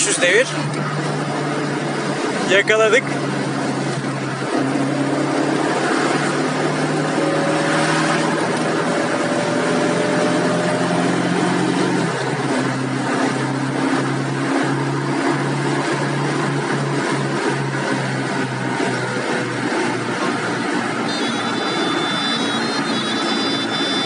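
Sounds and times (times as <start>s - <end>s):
car engine hum from cabin: 0.0s - 24.0s
road noise: 0.0s - 24.0s.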